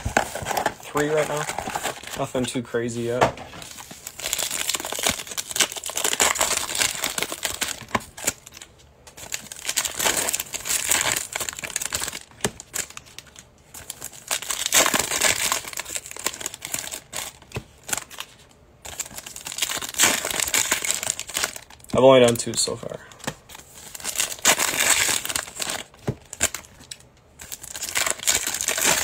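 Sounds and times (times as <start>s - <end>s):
foil wrappers crinkling and tearing: 0.0s - 22.6s, 23.5s - 29.0s.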